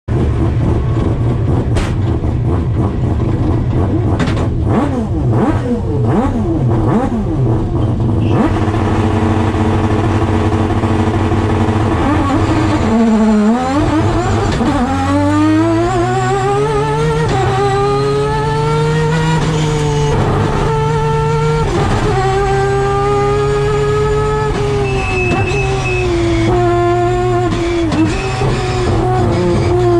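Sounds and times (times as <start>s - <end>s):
car engine revving: 0.1s - 29.9s.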